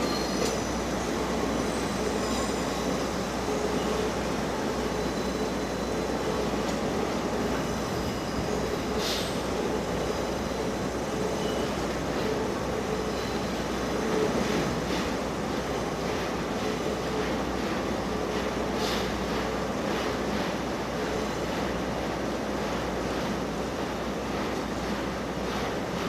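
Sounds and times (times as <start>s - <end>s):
train rail rumble: 0.0s - 26.0s.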